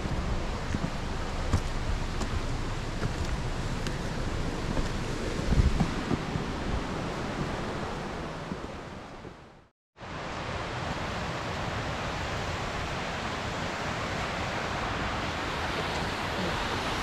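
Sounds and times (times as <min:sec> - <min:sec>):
steady rushing outdoor noise: 0:00.0 - 0:17.0.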